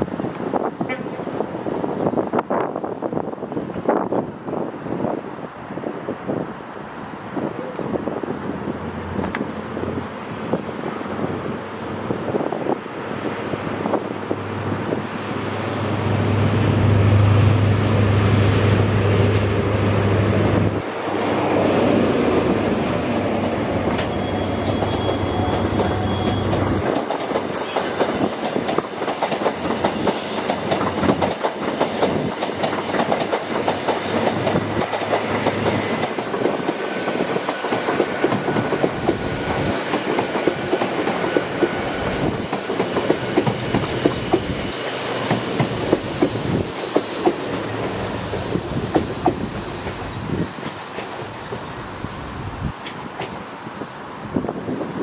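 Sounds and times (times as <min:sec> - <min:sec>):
deep train engine hum: 0:05.3 - 0:54.9.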